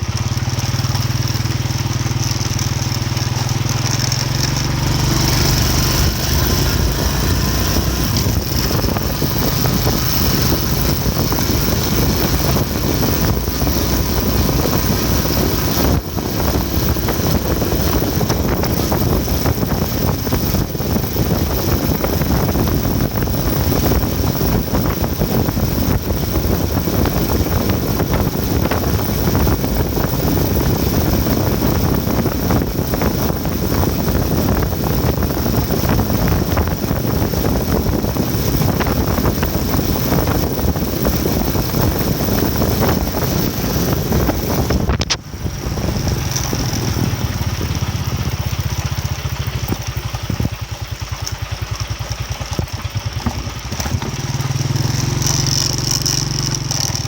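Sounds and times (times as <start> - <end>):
engine idling: 0.0 - 57.0
heavy rough-running engine: 0.0 - 57.0.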